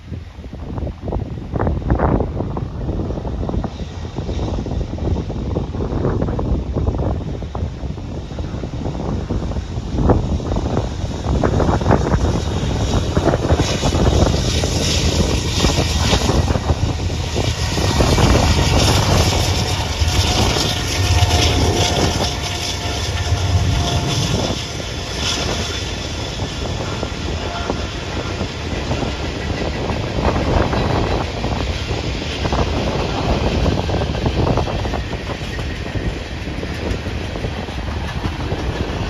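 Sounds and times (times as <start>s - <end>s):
diesel locomotives rumbling: 0.0s - 39.0s.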